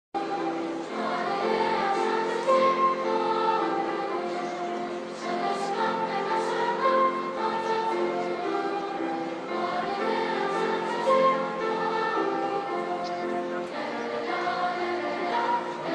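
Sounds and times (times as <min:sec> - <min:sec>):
children's choir singing: 0:00.2 - 0:15.9
piano: 0:00.2 - 0:15.9.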